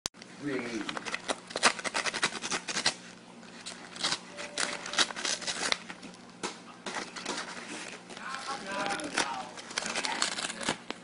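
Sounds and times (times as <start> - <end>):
paper crinkling as cat chews: 0.4 - 11.0.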